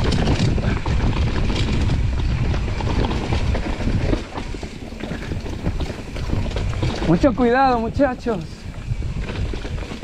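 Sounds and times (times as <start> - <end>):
bike knocking and rattling: 0.0 - 10.0
wind buffeting microphone: 0.0 - 10.0.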